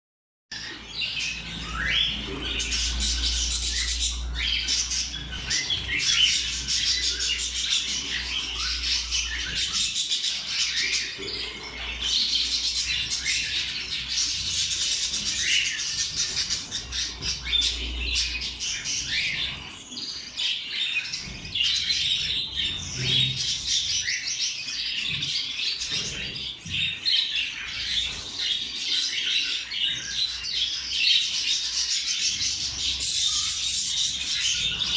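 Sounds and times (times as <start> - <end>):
budgerigars chirping: 0.6 - 34.9.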